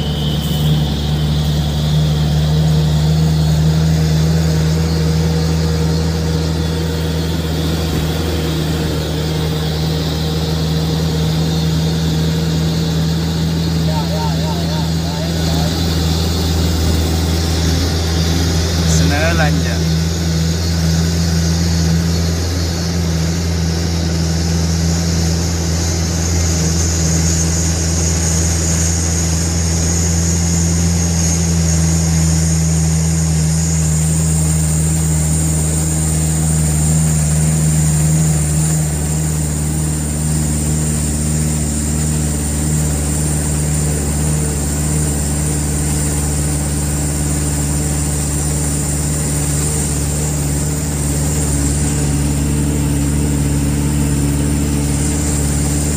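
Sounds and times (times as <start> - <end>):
truck diesel engine hum: 0.0 - 55.9.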